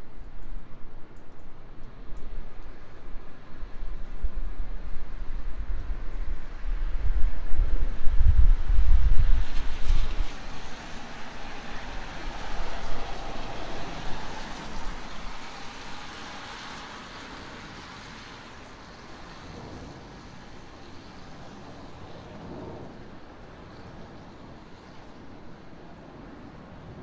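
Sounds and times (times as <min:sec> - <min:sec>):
plane engine passing overhead: 0:00.0 - 0:27.0
wind rumble on microphone: 0:00.0 - 0:27.0.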